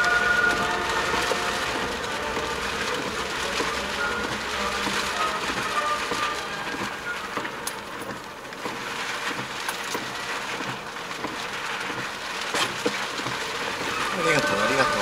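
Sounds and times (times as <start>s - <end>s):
rain hiss: 0.0s - 15.0s
raindrops ticking on glass: 0.0s - 15.0s
tyre noise on wet road: 0.0s - 15.0s.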